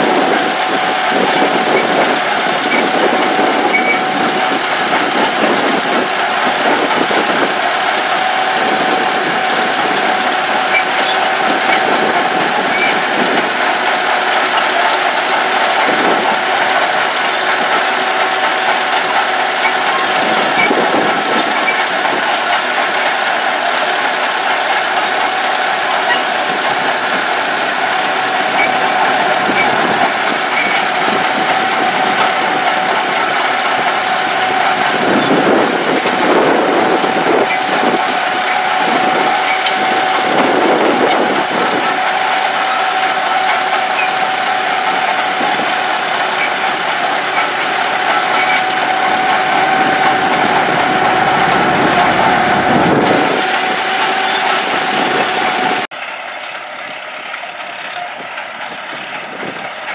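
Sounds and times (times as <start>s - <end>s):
bulldozer diesel engine running: 0.0s - 59.9s
steady high whine: 0.0s - 59.9s.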